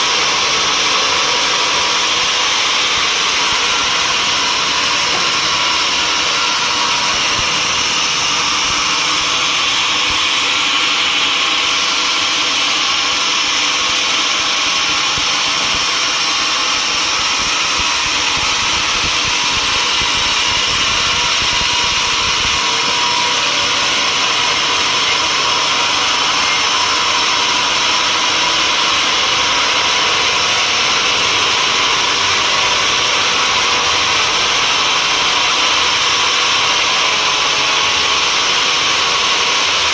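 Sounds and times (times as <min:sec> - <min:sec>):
saw running with even hiss: 0:00.0 - 0:39.9.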